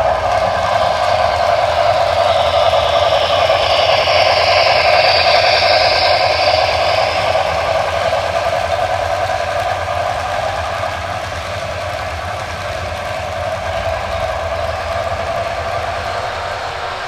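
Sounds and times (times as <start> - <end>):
high hiss: 0.0 - 17.0
low hum: 0.0 - 17.0.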